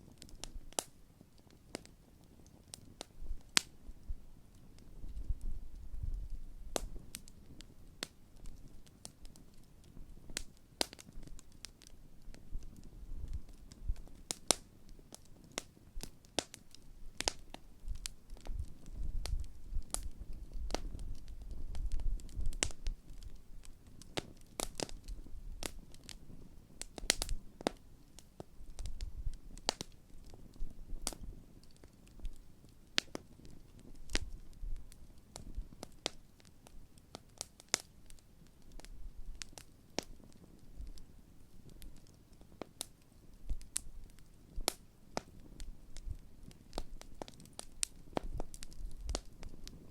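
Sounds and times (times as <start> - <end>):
campfire crackling and popping: 0.0 - 49.9
low rumble of flame: 0.0 - 49.9.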